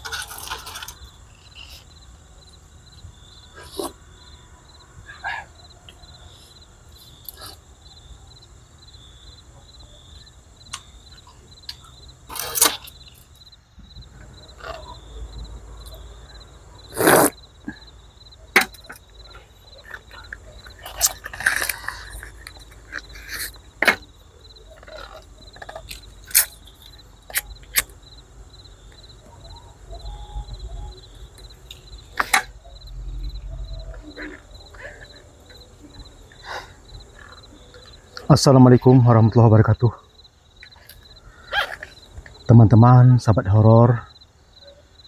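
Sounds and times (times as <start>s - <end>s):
night insects chirping: 0.0s - 45.0s.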